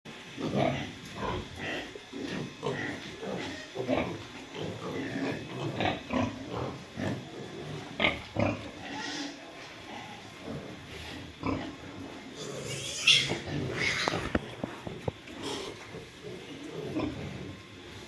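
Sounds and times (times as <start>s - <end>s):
pigs grunting: 0.4s - 17.8s.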